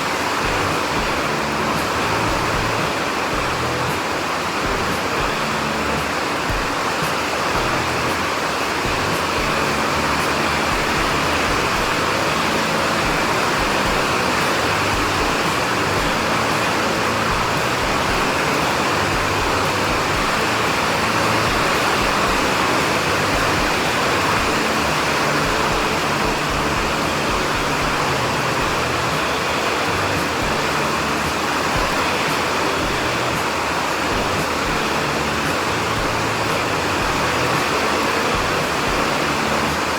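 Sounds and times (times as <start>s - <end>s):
heavy rain: 0.0s - 39.9s
low shifting tones: 0.0s - 39.9s.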